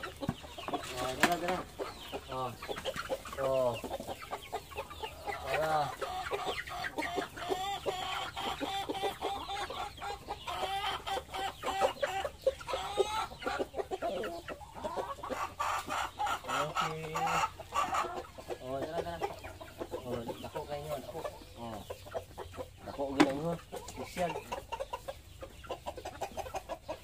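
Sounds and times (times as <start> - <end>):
young chickens clucking: 0.0 - 27.0.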